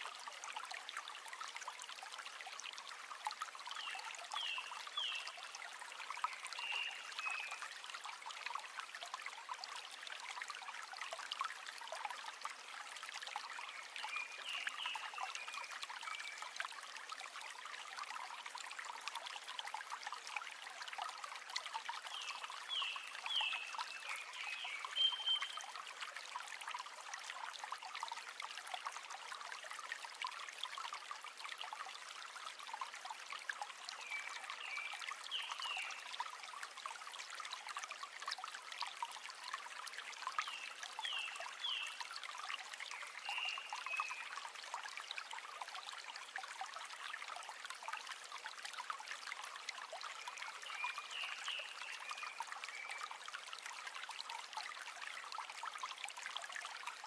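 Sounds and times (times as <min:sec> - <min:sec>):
river water babbling over stones: 0:00.0 - 0:57.0.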